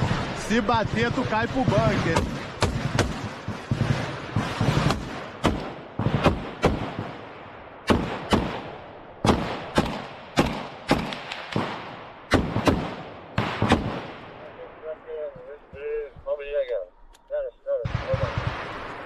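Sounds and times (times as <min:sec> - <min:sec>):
rifle shots echoing: 0:00.0 - 0:15.7, 0:17.8 - 0:19.0.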